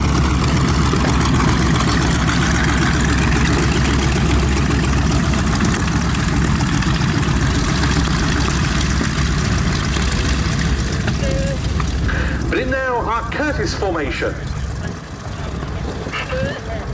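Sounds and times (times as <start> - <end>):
aircraft piston engines droning: 0.0 - 16.9.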